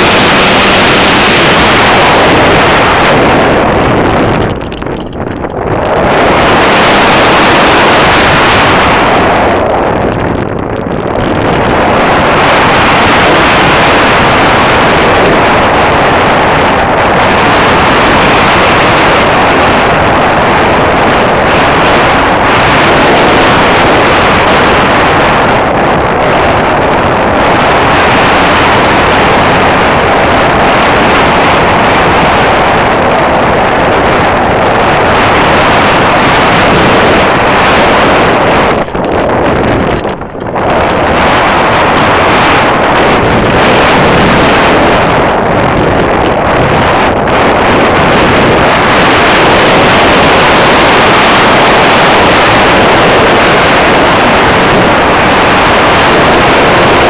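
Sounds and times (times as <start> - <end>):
airflow rush: 0.0 - 57.0
propeller aircraft noise: 0.0 - 57.0.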